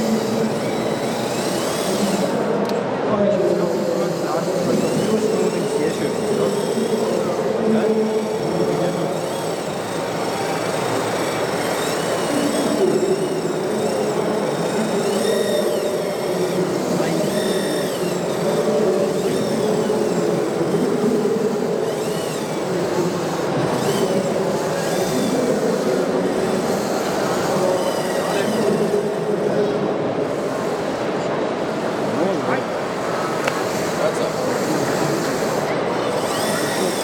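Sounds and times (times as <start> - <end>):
hydraulic pumps whining: 0.0 - 37.0
steady mechanical hum: 0.0 - 37.0.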